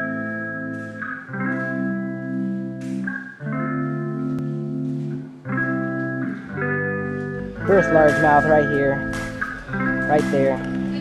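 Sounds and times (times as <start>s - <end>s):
sustained guitar chords: 0.0s - 11.0s.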